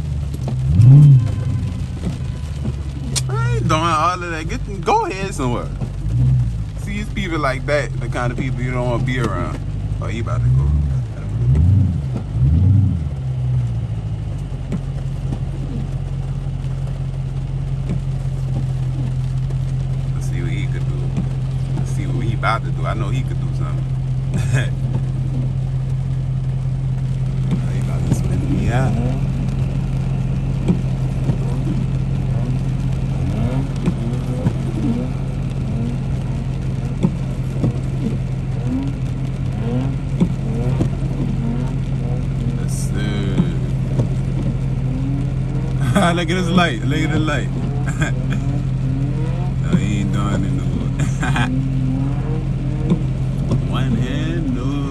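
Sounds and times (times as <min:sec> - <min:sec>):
car engine revving and idling: 0:00.0 - 0:54.9.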